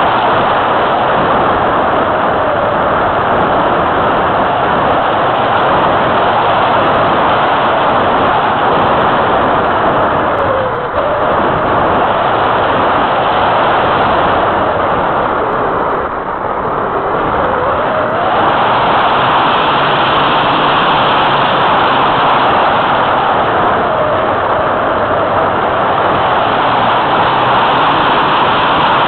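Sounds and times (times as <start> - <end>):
wind rushing over camera: 0.0 - 29.0.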